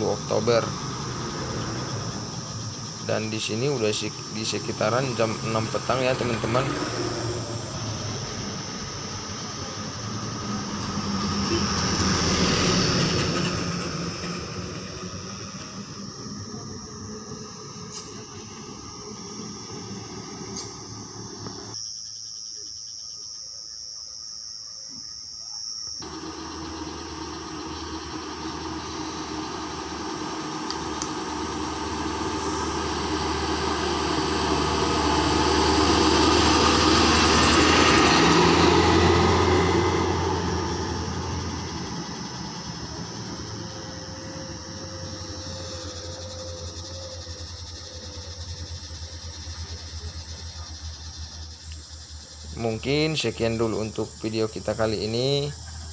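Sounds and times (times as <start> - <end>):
diesel truck passing: 0.0 - 21.8, 26.0 - 55.9
insects chirping: 0.0 - 55.9.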